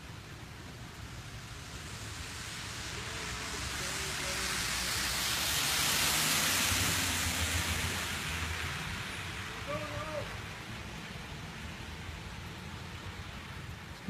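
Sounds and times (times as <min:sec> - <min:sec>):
rain on wet pavement: 0:00.0 - 0:14.0.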